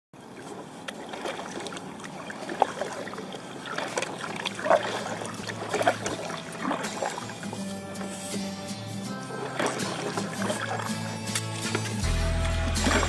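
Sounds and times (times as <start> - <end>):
water splashing around kayak: 0.2 - 13.0.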